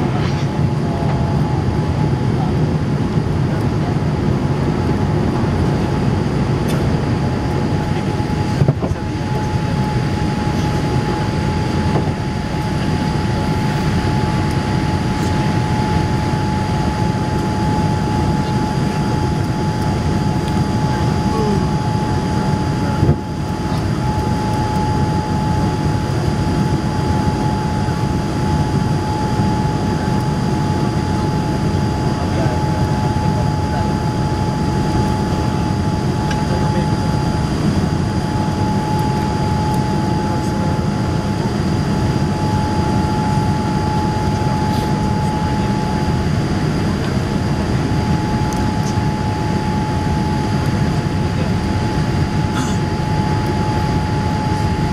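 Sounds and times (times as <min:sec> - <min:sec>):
jet engine and airflow roar: 0:00.0 - 0:54.9
steady whining tone: 0:00.0 - 0:54.9.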